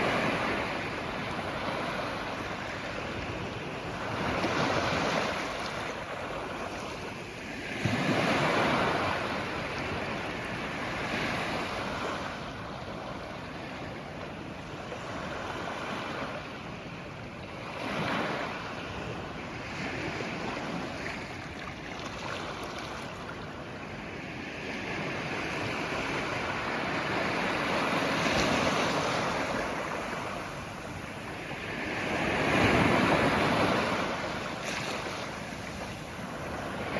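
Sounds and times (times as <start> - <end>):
ocean waves breaking: 0.0 - 13.9, 17.6 - 36.9.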